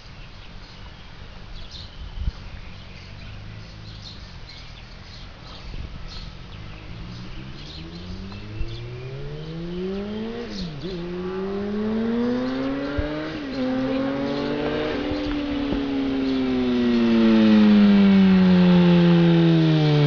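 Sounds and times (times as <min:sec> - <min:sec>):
motorcycle engine accelerating: 0:02.3 - 0:20.0.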